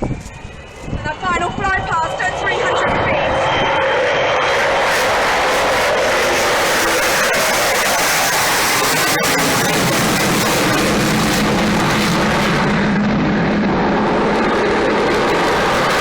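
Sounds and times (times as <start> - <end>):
jet engines loud roar: 0.0 - 16.0.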